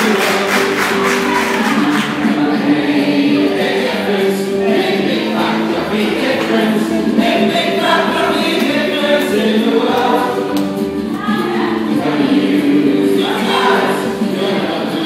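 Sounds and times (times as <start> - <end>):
choir-like voices over held chords: 0.0 - 15.0.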